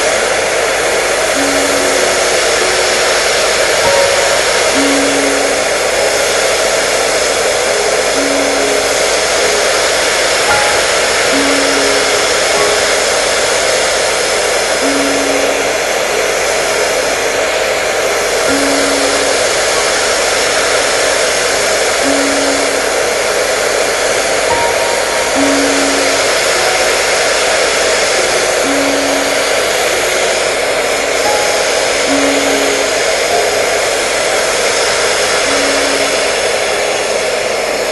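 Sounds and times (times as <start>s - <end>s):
hair dryer running: 0.0s - 37.9s.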